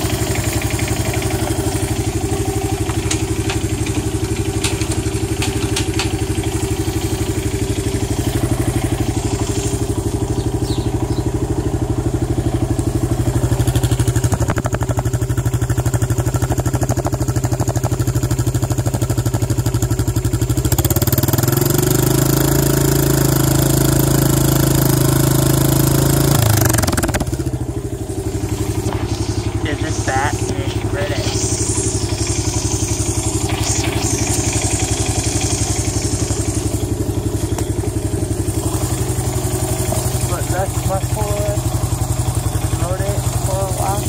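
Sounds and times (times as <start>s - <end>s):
atv engine idling and revving: 0.0s - 44.0s.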